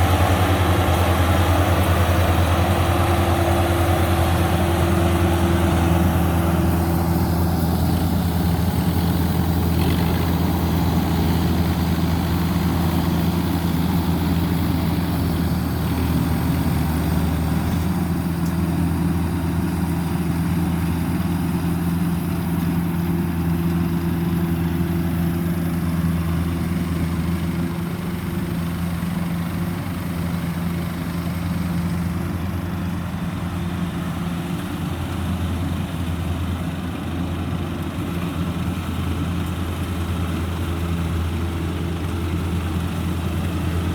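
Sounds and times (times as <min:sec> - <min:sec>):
combine harvester diesel engine: 0:00.0 - 0:43.9
harvesting rattle and hiss: 0:00.0 - 0:43.9.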